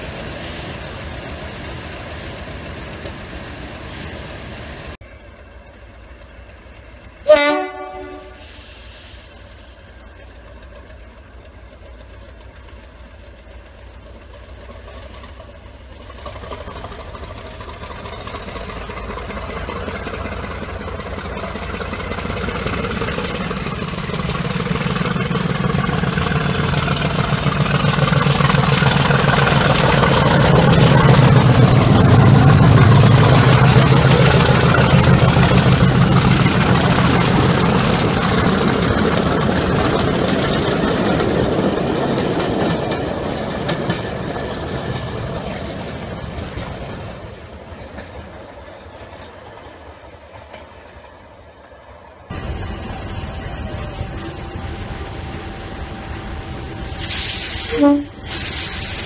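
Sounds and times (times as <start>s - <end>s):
diesel locomotive engine thrashing: 0.0s - 48.6s.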